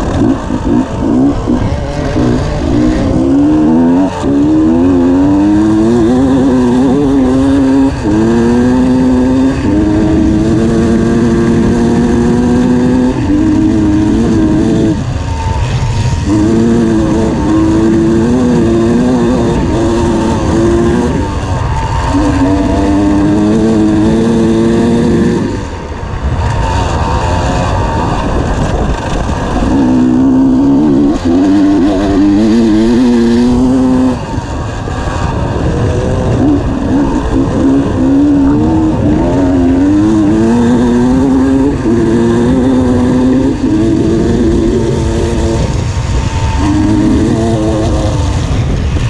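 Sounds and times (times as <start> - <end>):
dirt bike engine revving: 0.0 - 49.0
wind noise: 0.0 - 49.0.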